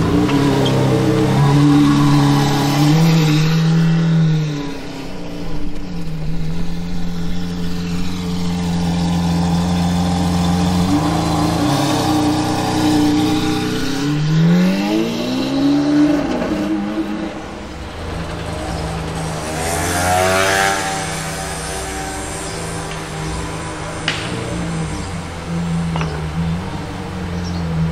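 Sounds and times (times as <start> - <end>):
car engine and exhaust revving: 0.0 - 27.9.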